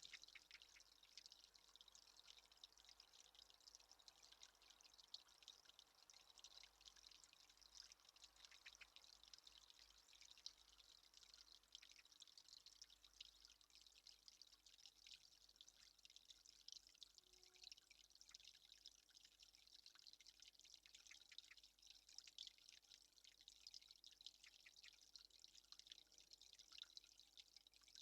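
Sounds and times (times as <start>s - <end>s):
water trickling and dripping: 0.0s - 28.0s.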